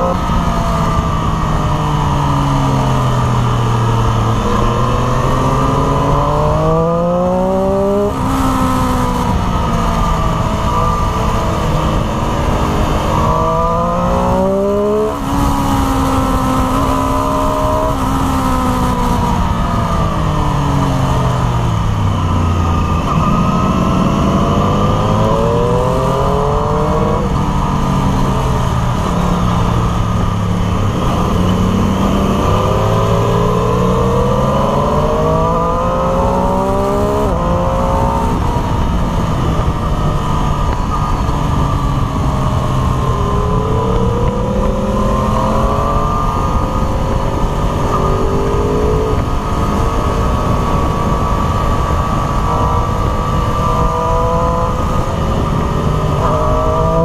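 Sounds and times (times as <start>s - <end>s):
motorcycle engine revving: 0.0s - 57.0s
wind rush over microphone: 0.0s - 57.0s.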